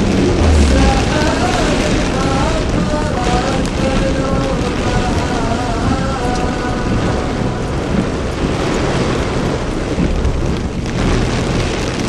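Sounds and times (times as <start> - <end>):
deep low rumble: 0.0 - 12.0
heavy rain falling: 0.0 - 12.0.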